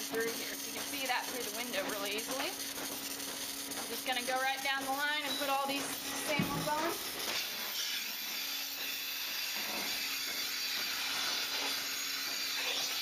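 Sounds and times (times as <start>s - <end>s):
milking machine hiss and hum: 0.0s - 13.0s.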